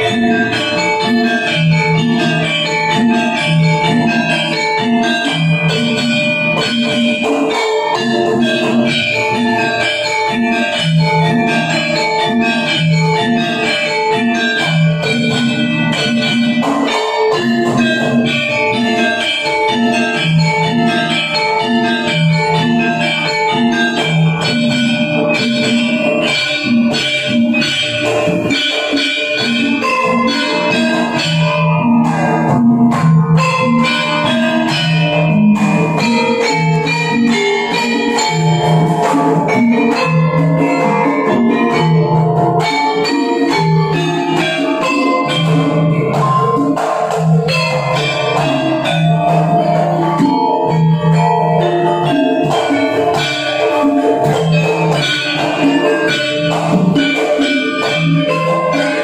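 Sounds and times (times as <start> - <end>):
hand drums playing: 0.0 - 59.0
metallophones and gongs ringing: 0.0 - 59.0.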